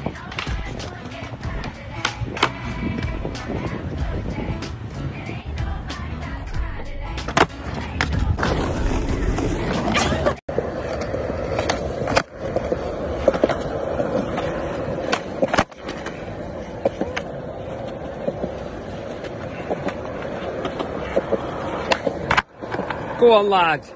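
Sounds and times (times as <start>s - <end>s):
skateboard clacks: 0.0s - 4.8s, 7.2s - 23.2s
skateboard wheels rolling on concrete: 0.0s - 23.9s.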